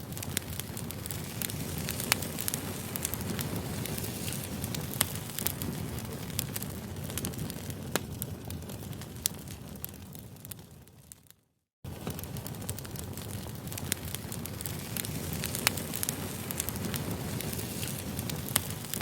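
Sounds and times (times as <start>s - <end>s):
sharp pops of burning wood: 0.0s - 10.7s, 11.9s - 19.0s
campfire crackling: 0.0s - 11.3s, 11.9s - 19.0s.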